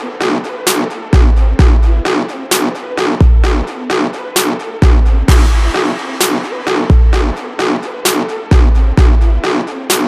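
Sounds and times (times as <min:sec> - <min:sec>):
trap electronic music: 0:00.0 - 0:10.0.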